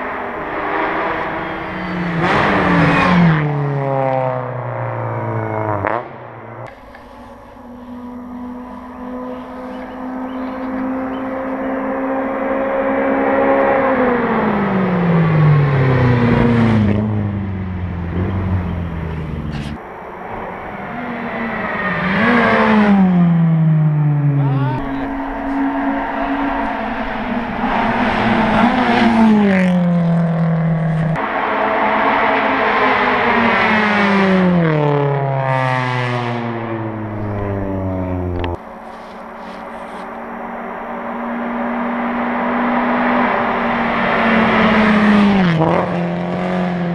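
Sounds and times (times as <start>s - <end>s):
rally cars driving past: 0.0s - 46.9s.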